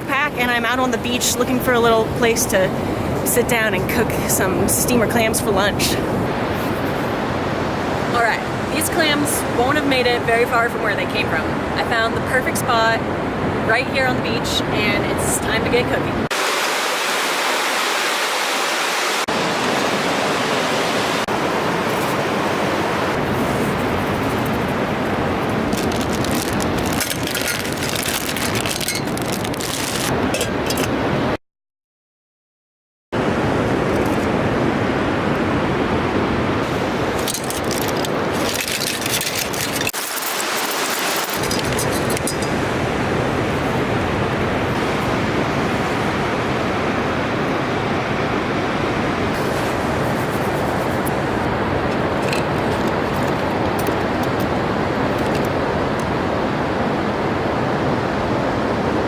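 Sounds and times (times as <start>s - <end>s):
ocean surf on a beach: 0.0s - 31.4s, 33.2s - 59.0s
wind: 0.0s - 31.4s, 33.2s - 59.0s.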